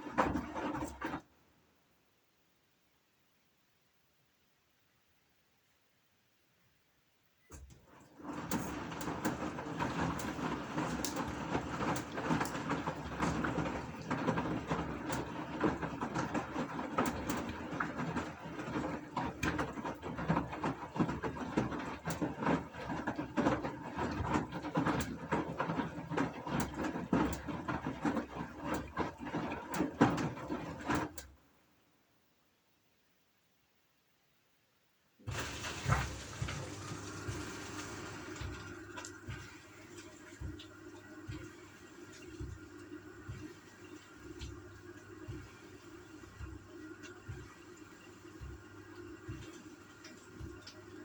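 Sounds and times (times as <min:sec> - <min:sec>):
washing machine churning: 0:00.0 - 0:01.3, 0:07.5 - 0:31.4, 0:35.2 - 0:51.0.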